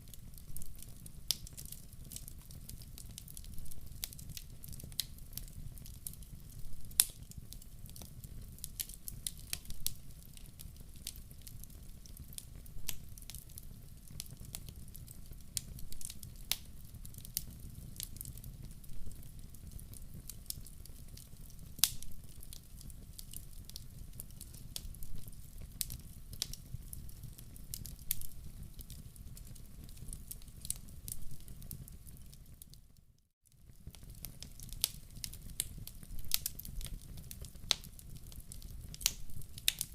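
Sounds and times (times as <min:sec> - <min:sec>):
low fire rumble: 0:00.0 - 0:32.6, 0:33.6 - 0:39.9
wood fire crackling and popping: 0:00.0 - 0:33.0, 0:33.6 - 0:39.9.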